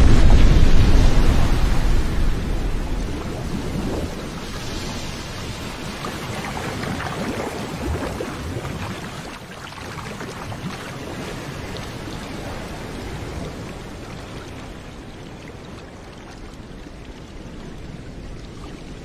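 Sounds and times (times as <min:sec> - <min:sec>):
water rushing and splashing: 0:00.0 - 0:19.0.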